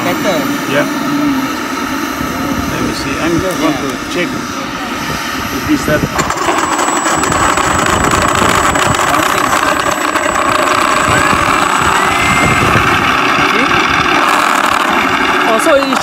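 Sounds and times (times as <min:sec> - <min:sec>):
simulated aircraft engine idling: 0:00.0 - 0:16.0.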